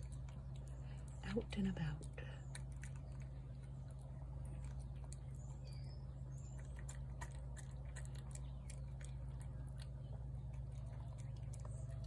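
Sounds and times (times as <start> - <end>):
cat chewing and licking: 0.0 - 12.0
low background hum: 0.0 - 12.0.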